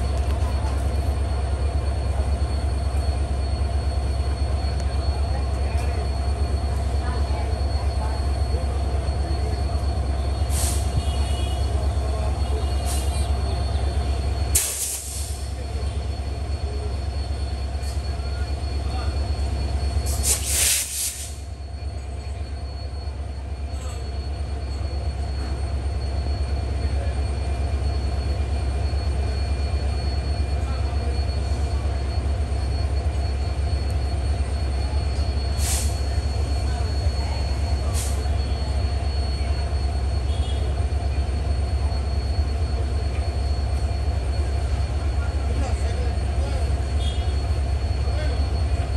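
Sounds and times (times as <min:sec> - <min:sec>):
diesel locomotive drone: 0:00.0 - 0:48.9.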